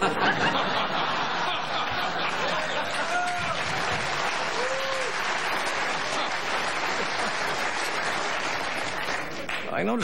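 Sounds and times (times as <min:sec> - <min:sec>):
audience laughing: 0:00.0 - 0:09.4
audience applauding: 0:00.6 - 0:10.0.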